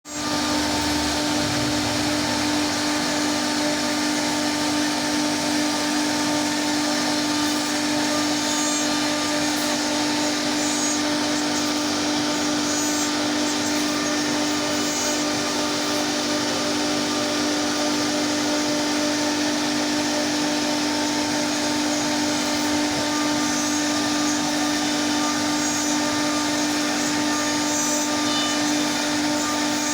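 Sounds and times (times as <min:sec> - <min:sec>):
bit cutting wood: 0:00.1 - 0:29.9
router spindle running: 0:00.1 - 0:29.9.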